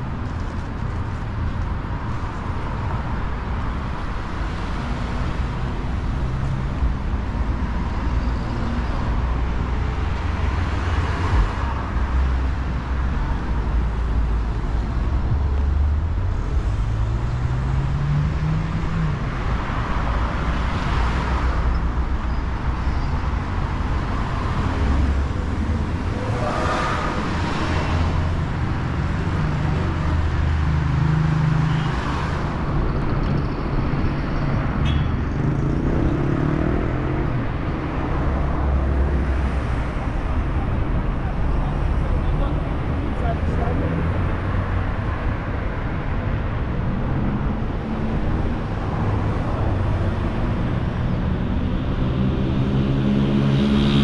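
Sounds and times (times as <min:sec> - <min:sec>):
cars passing close by: 0:00.0 - 0:54.0.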